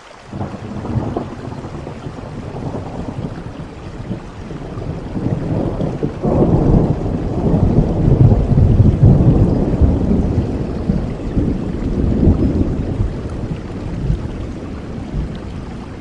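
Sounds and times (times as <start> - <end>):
steady rain: 0.0 - 16.0
thunder rumbling: 0.3 - 16.0.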